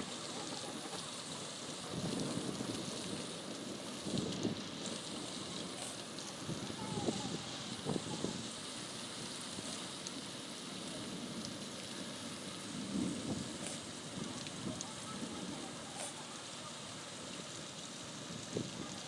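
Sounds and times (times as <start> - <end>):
rain on concrete: 0.0 - 19.0.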